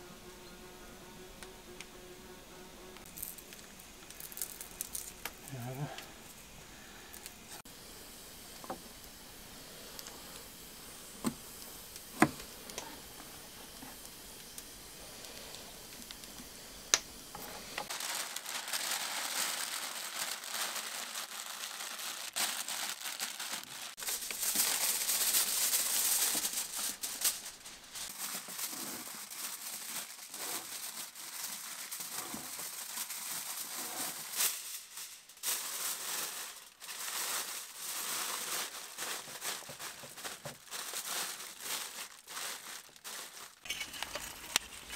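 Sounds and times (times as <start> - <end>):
aluminium foil crinkling: 3.0 - 44.9.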